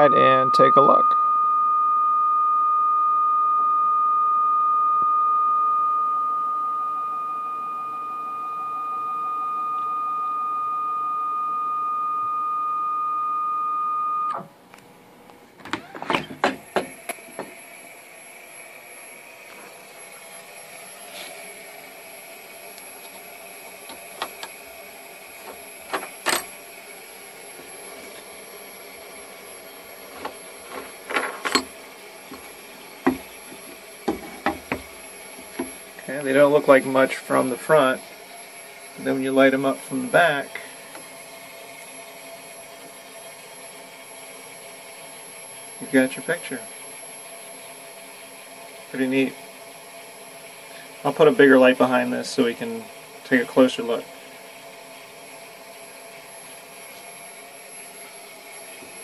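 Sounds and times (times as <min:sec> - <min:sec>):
machine high whine: 0:00.0 - 0:14.5, 0:15.7 - 0:54.1.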